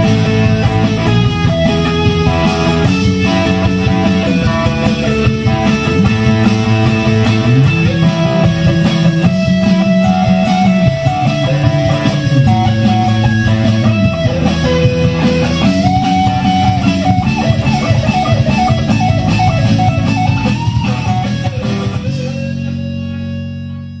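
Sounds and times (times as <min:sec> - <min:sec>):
electric guitar lead melody: 0:00.0 - 0:24.0
steady bass notes: 0:00.0 - 0:24.0.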